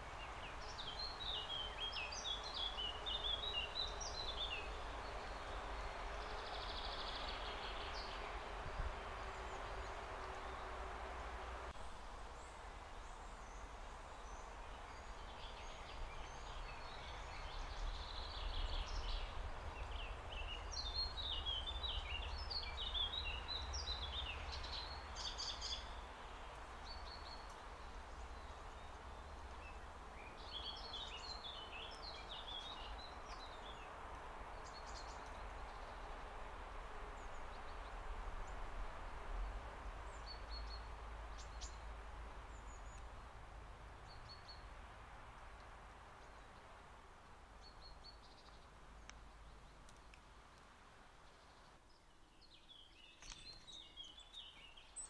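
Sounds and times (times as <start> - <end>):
low background noise: 0.0 - 55.0
small songbirds chirping: 0.0 - 55.0.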